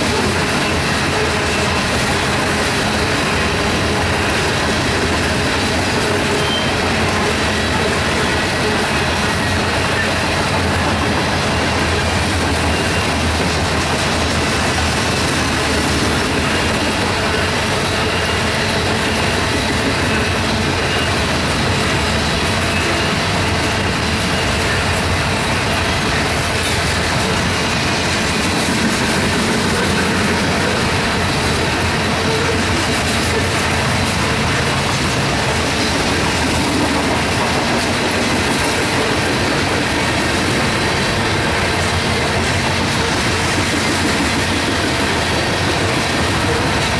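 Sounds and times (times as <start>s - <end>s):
steel wheels rolling on track: 0.0s - 46.9s.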